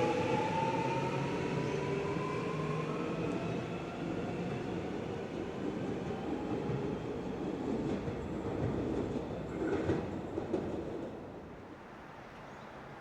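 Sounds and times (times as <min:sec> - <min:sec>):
train rumbling on rails: 0:00.0 - 0:11.9.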